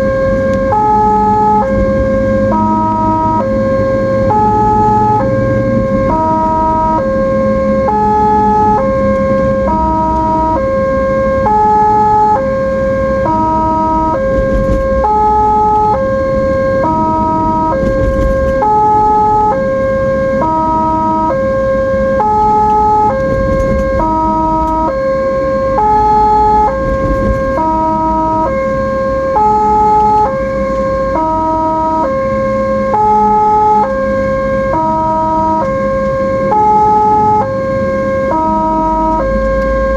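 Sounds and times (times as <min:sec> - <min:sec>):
two-tone ambulance siren: 0:00.0 - 0:39.9
vehicle rumble on road: 0:00.0 - 0:39.9.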